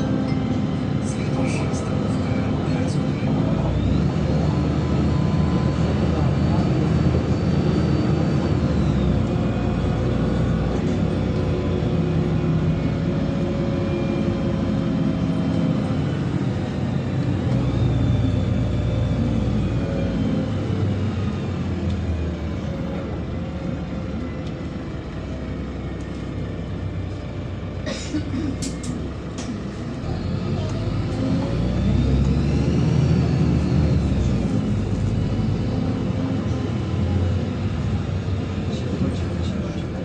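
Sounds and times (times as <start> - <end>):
bus engine and road noise: 0.0 - 40.0.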